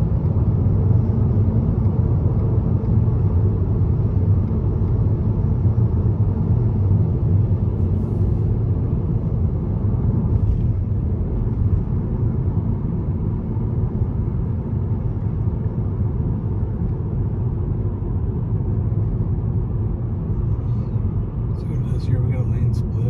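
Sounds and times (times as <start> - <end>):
road and tyre noise in car cabin: 0.0 - 23.0.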